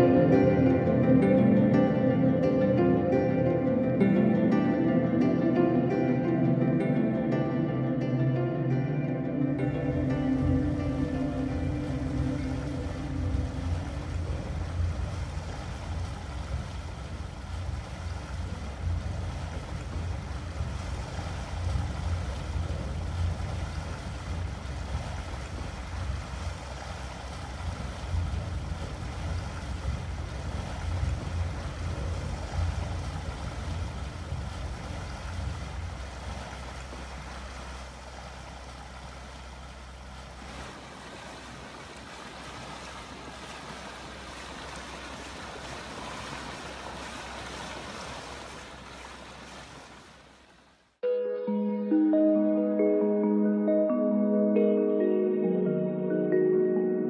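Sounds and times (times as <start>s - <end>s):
choppy low water rumble: 0.0s - 51.0s
steady wash of water: 0.0s - 51.0s.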